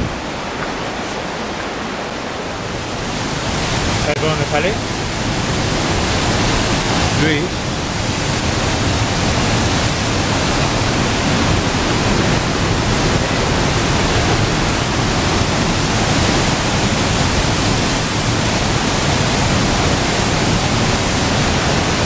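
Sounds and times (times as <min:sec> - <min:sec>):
river water rushing over weir: 0:00.0 - 0:22.0.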